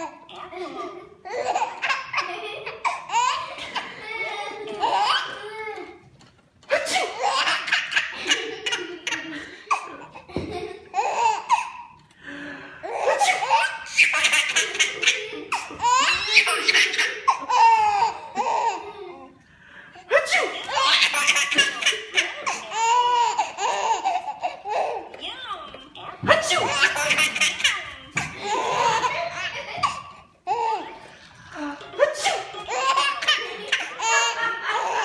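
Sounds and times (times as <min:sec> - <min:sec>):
baby laughing: 0:00.0 - 0:06.0, 0:06.7 - 0:12.0, 0:12.8 - 0:19.3, 0:20.1 - 0:25.3, 0:26.0 - 0:35.0.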